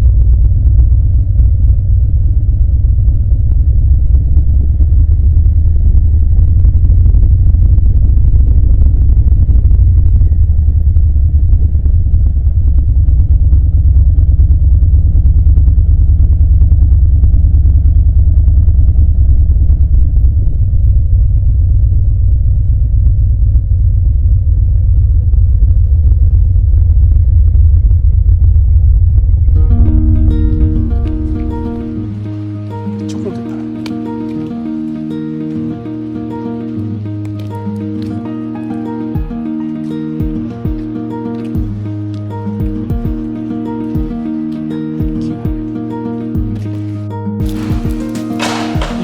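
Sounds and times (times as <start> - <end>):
motorcycle engine rumbling: 0.0 - 49.0.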